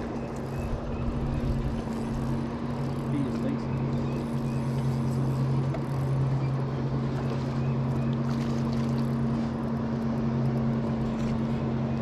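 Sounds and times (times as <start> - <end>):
boat motor humming: 0.0 - 12.0
water noise: 0.0 - 12.0
wind: 0.0 - 12.0.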